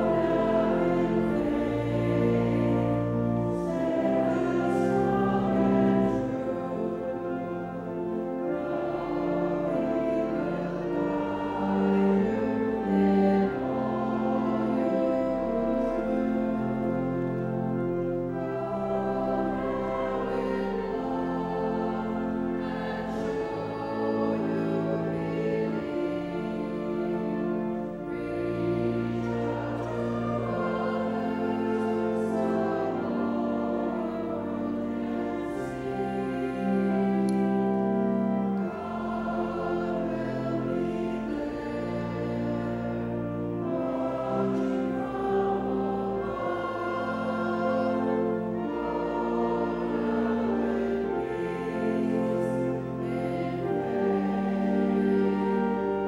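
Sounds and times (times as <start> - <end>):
congregation and choir singing hymn: 0.0 - 56.0
pipe organ chords: 0.0 - 56.0.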